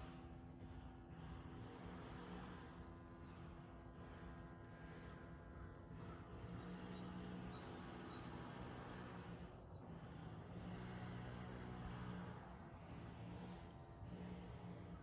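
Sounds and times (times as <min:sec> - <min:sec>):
low steady fire rumble: 0:00.0 - 0:15.0.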